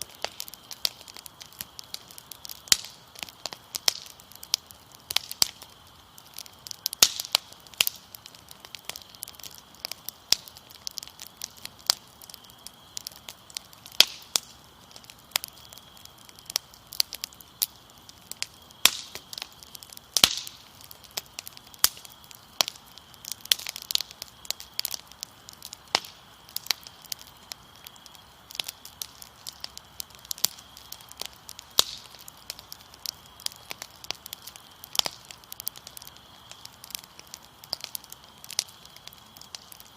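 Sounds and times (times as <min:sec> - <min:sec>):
crickets chirring: 0:00.0 - 0:39.9
fire crackling and popping: 0:00.0 - 0:39.9.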